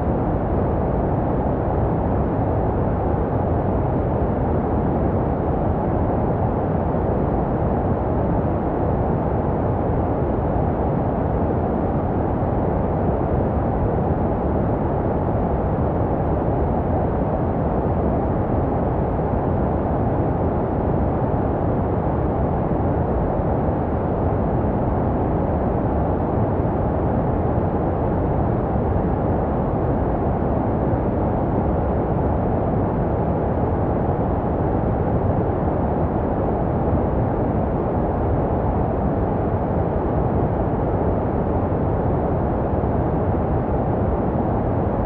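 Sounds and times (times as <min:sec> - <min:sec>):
muffled white noise: 0:00.0 - 0:45.0.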